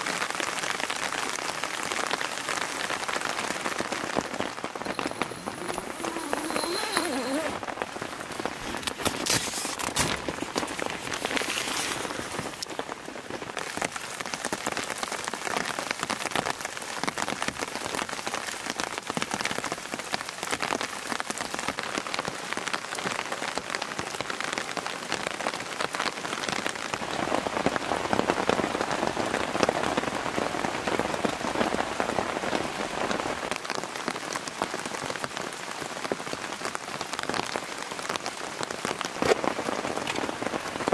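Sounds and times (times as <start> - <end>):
rain on a tarp: 0.0 - 40.9.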